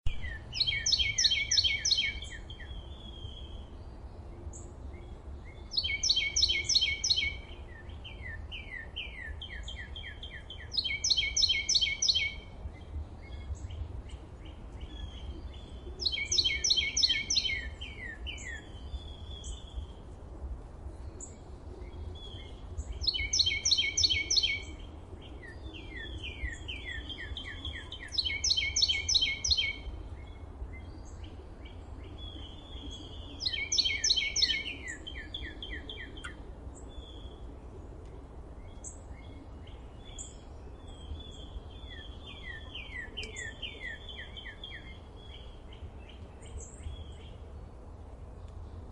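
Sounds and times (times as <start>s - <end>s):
songbird singing repeated notes: 0.1s - 20.0s, 21.1s - 37.6s, 38.6s - 47.8s
quiet bird chirps: 0.1s - 20.2s, 20.8s - 48.9s.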